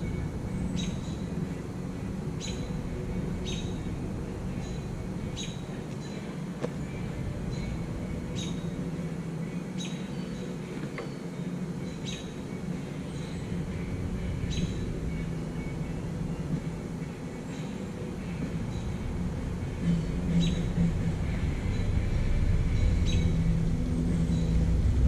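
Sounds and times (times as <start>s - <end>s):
bird chirping: 0.0s - 24.8s
steady low hum: 0.0s - 25.0s.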